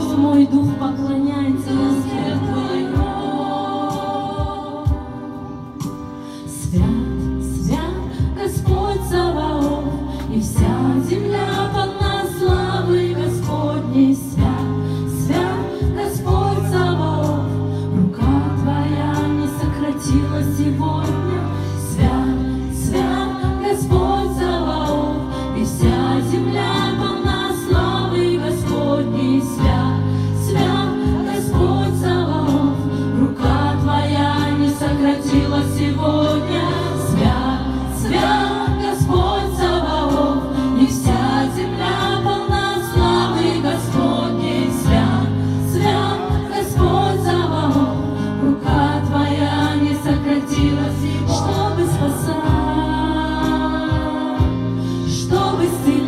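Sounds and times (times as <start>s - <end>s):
women singing through pa: 0.0s - 56.0s.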